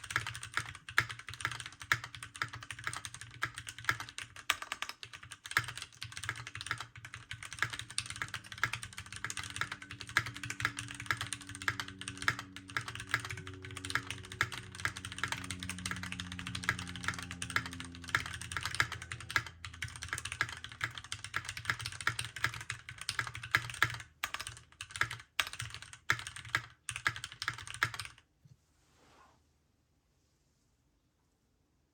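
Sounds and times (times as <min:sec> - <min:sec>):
mechanical keyboard typing: 0:00.0 - 0:28.2.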